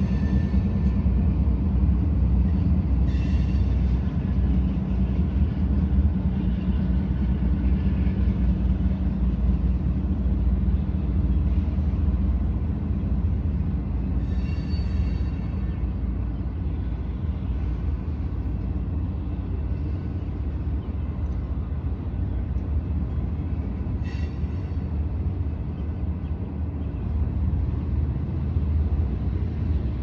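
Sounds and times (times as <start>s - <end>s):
constant low hum: 0.0s - 30.0s.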